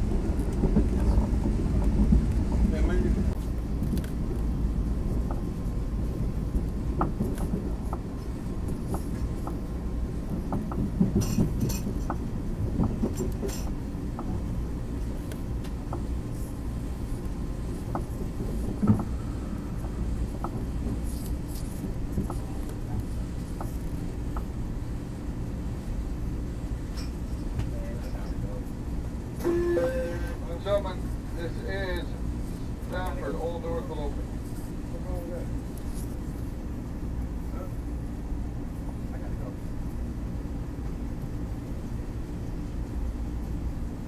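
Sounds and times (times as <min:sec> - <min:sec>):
train interior rumble: 0:00.0 - 0:44.0.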